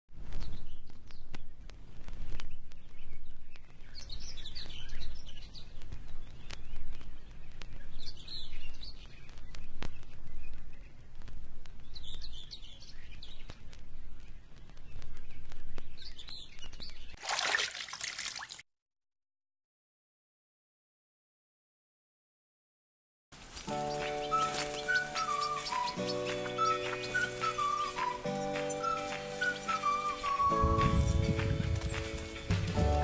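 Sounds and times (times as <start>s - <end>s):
songbirds calling: 0.3s - 17.2s, 23.4s - 33.0s.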